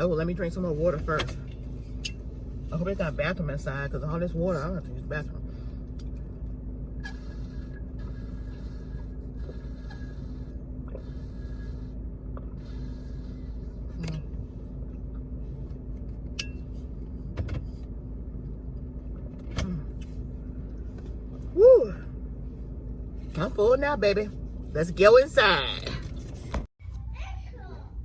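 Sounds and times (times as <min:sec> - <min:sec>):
car cabin hum: 0:00.0 - 0:26.7.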